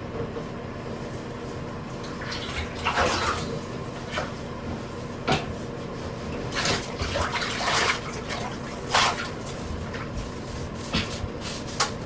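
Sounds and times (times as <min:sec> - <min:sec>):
water splashing in a bathtub: 0:01.7 - 0:12.0.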